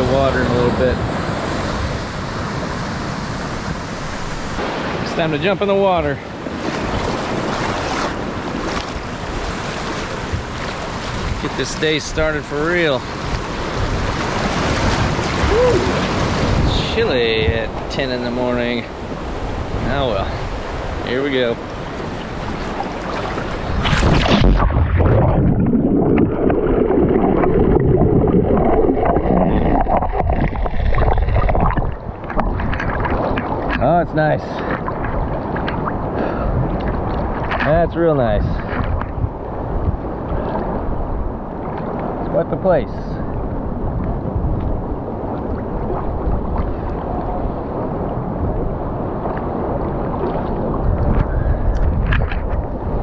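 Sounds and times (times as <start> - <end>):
sea water sloshing: 0.0 - 17.0, 18.6 - 42.3, 43.2 - 53.0
seawater splashing and gurgling: 0.0 - 53.0.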